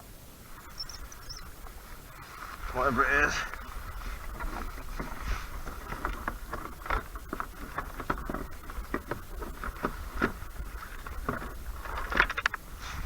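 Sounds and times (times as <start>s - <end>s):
water lapping against kayak hull: 0.4s - 13.0s.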